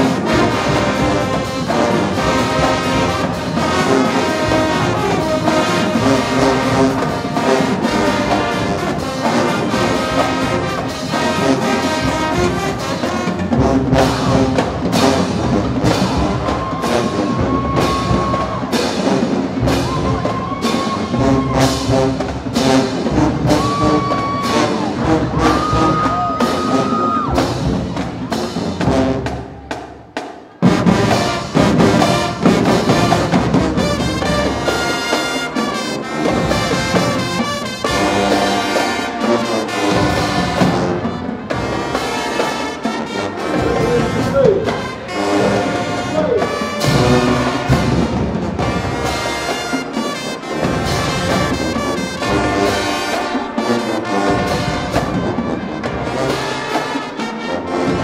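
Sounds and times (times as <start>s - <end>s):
drum beat: 0.0s - 58.0s
marching band playing: 0.0s - 58.0s.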